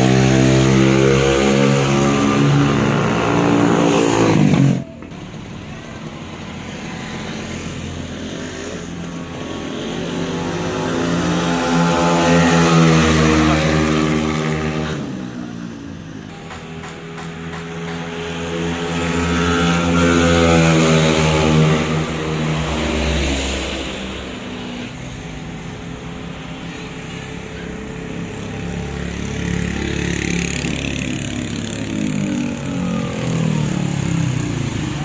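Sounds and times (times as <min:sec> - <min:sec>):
scooter engine accelerating: 0:00.0 - 0:35.0.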